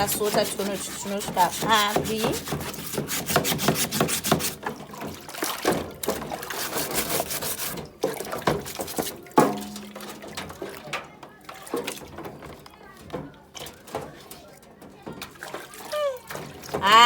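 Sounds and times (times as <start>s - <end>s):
brush scrubbing wet surface: 0.0s - 17.0s
liquid sloshing: 0.0s - 17.0s.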